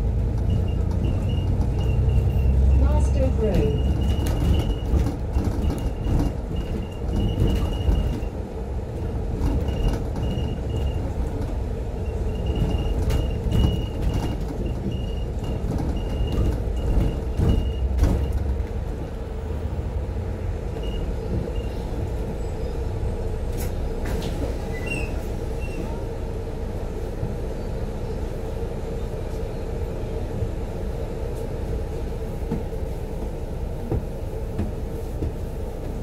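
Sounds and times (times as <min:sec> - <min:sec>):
bus engine: 0:00.0 - 0:36.0.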